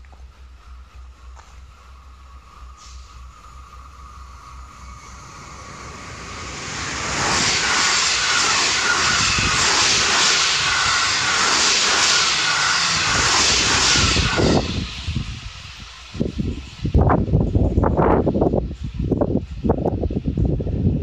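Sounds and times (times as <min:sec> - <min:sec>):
train wheels clacking on rails: 0:00.0 - 0:18.0
electric train passing: 0:00.0 - 0:21.0.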